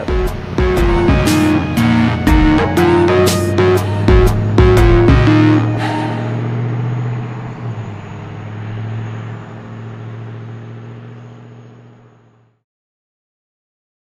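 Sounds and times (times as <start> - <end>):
vehicle engine and road noise: 0.0 - 12.6.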